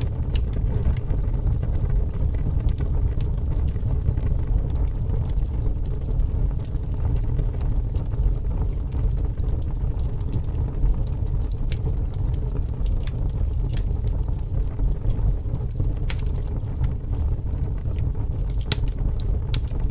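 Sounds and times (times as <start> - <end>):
fire crackling and popping: 0.0 - 19.9
fire roaring: 0.0 - 19.9.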